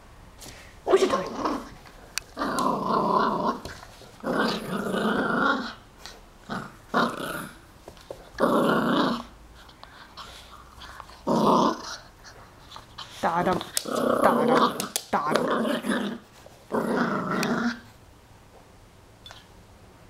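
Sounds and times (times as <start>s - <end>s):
dog growling: 0.9s - 7.6s, 8.4s - 17.9s.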